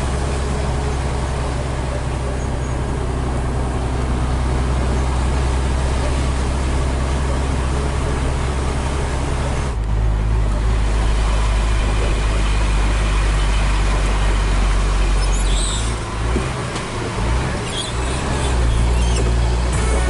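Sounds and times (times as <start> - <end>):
road noise: 0.0 - 20.0
truck diesel engine under load: 0.0 - 20.0.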